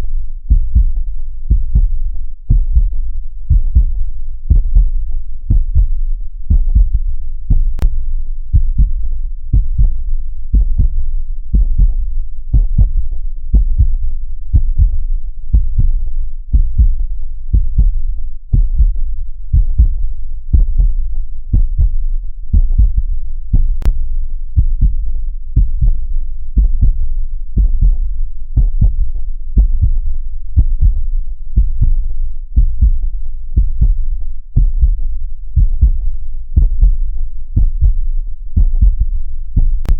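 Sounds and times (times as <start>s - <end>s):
heartbeat thumps: 0.4s - 39.9s.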